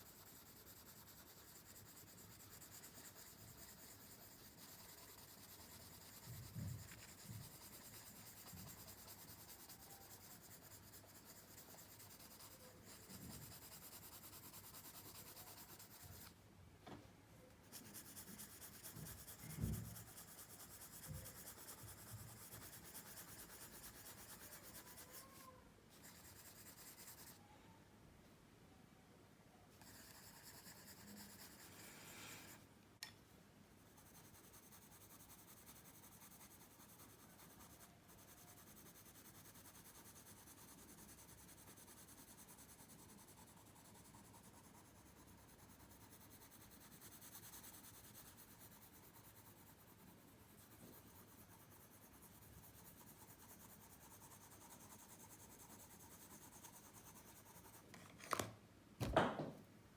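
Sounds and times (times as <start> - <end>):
pencil scratching on paper: 0.0 - 16.4, 17.7 - 27.4, 29.8 - 32.6, 33.8 - 58.1.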